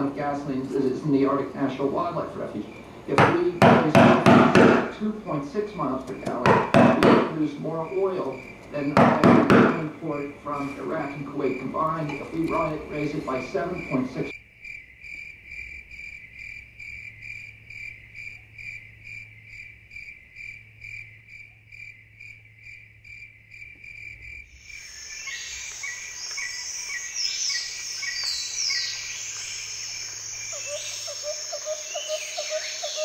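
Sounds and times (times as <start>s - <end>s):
whistling bird and insect calls: 0.0s - 3.9s, 7.3s - 33.0s
insects chirping: 0.0s - 33.0s.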